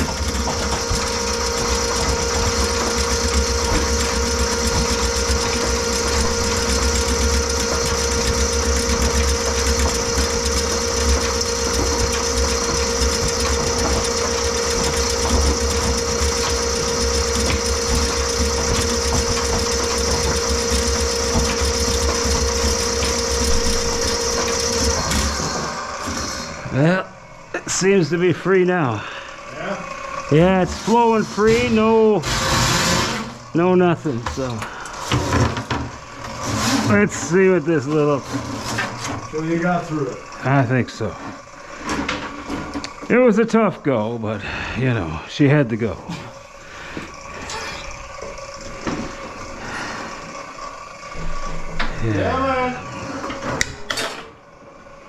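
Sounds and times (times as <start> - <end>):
drain cleaning machine whining: 0.0 - 55.0.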